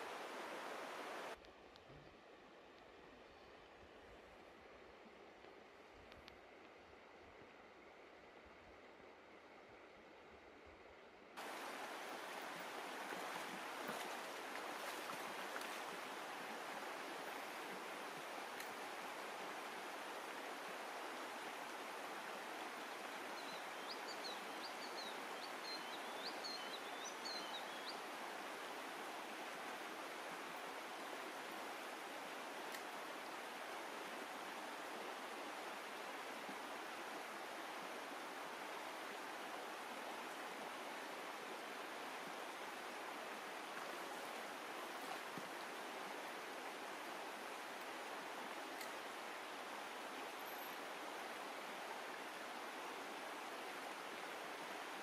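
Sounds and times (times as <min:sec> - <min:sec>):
stream flowing over stones: 0:00.0 - 0:01.4, 0:11.4 - 0:55.0.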